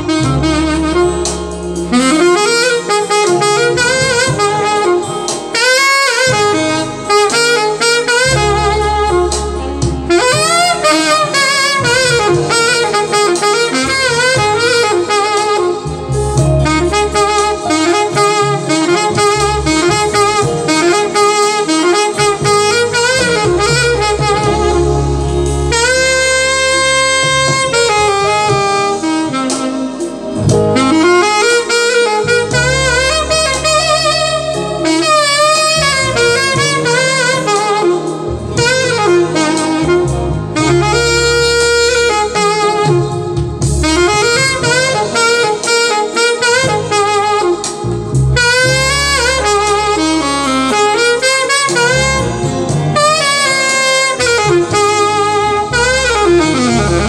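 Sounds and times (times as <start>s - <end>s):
held bass notes: 0.0s - 57.0s
saxophone slow melody: 0.0s - 57.0s.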